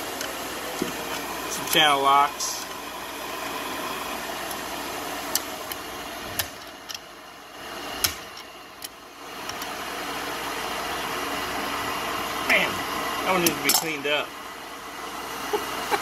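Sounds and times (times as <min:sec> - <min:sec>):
steady mechanical whir: 0:00.0 - 0:16.0.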